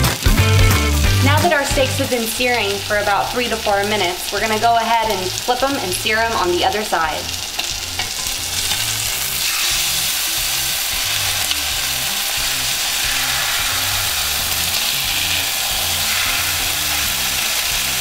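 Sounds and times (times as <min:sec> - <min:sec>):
steaks sizzling in oil: 0:00.0 - 0:18.0.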